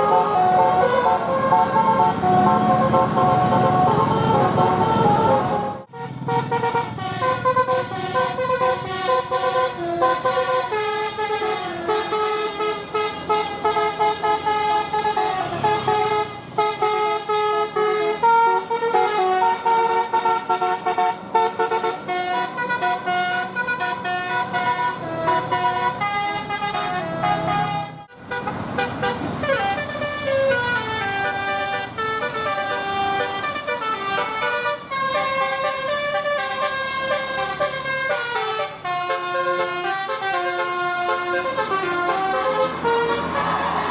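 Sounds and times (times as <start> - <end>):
musical air horn tune: 0.0 - 43.9.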